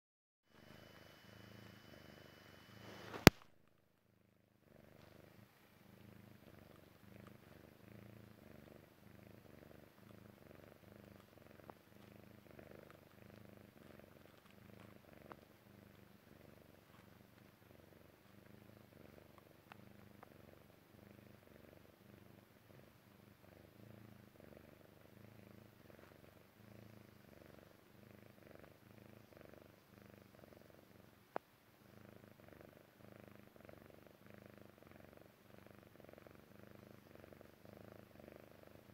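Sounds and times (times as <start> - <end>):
cat purring: 0.5 - 38.9.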